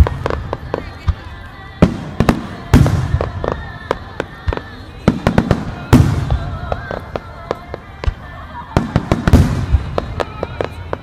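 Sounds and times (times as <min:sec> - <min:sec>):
fireworks bursting with bangs: 0:00.0 - 0:11.0.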